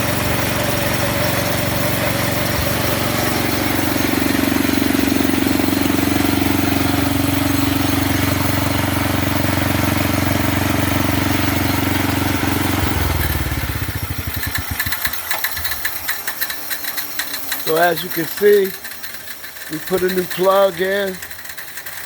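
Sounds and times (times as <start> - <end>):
snow thrower engine running: 0.0 - 22.0.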